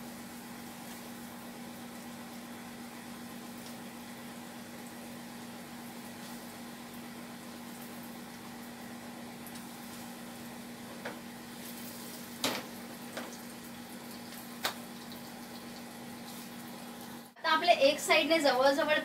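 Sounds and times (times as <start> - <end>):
oil sizzling in frying pan: 0.0 - 17.4.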